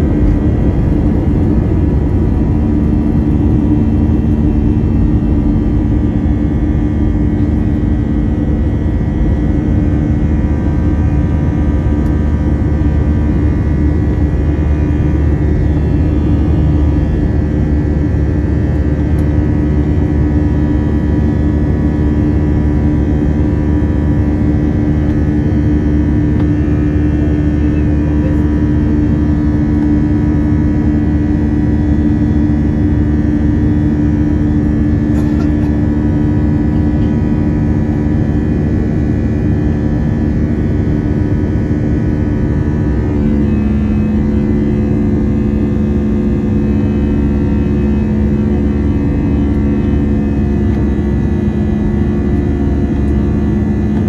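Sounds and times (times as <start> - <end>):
high engine whine: 0.0 - 54.0
jet engine drone in cabin: 0.0 - 54.0.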